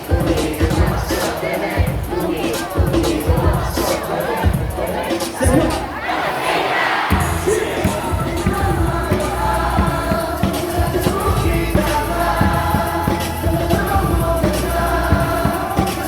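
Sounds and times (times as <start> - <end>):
crowd singing over loudspeakers: 0.0 - 16.0.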